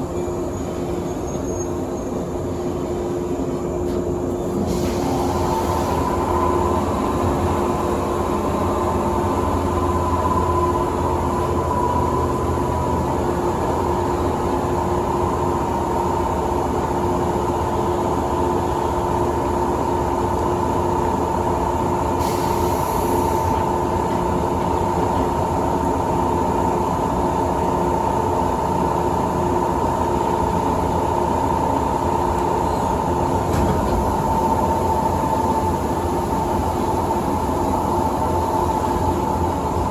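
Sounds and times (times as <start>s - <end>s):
train running rumble and whine: 0.0s - 39.9s.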